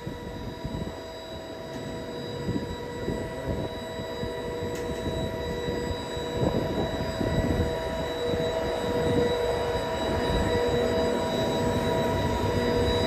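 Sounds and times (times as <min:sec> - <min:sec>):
steady high whine: 0:00.0 - 0:13.0.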